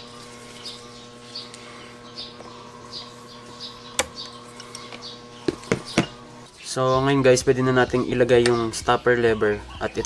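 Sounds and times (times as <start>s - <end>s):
bird chirping: 0.0s - 10.0s
steady hum: 0.0s - 10.0s.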